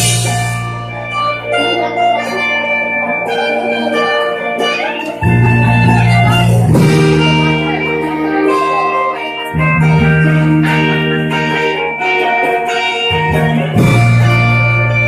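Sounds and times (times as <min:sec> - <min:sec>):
bass guitar: 0:00.0 - 0:15.0
electric guitar: 0:00.0 - 0:15.0
rock band playing: 0:00.0 - 0:15.0.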